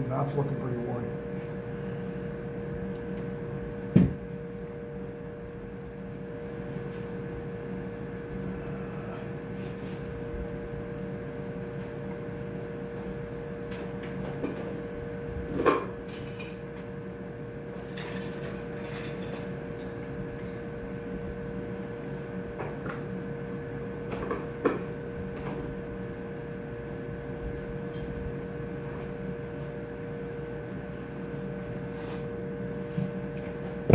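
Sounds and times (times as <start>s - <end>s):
electrical hum: 0.0s - 33.9s.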